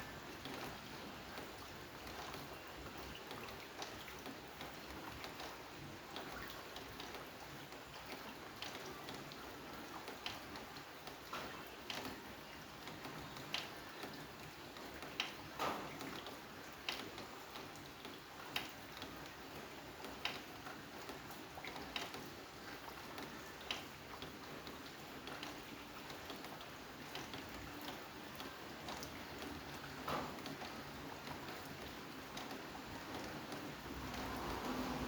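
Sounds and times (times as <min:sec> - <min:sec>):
rain falling steadily: 0:00.0 - 0:35.0.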